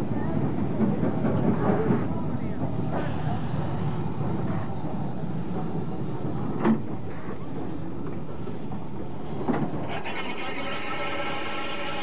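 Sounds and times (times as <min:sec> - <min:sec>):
sharp train clanks: 0:00.0 - 0:12.0
steam train rushing: 0:00.0 - 0:12.0.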